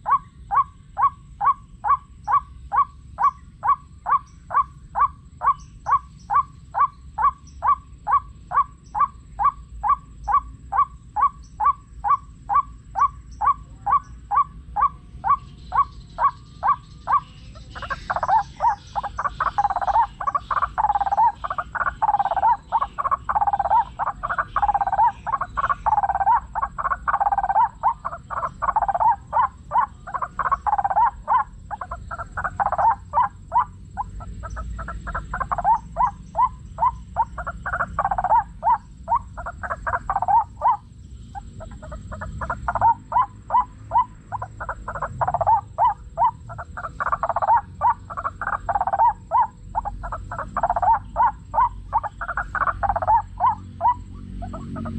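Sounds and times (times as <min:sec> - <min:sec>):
bird harsh repeated calls: 0:00.0 - 0:54.9.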